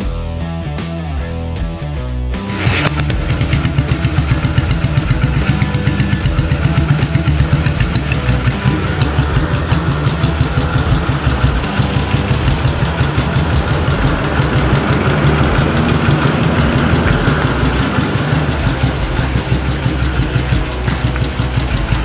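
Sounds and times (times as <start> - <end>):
motorcycle engine idling: 2.4 - 22.0.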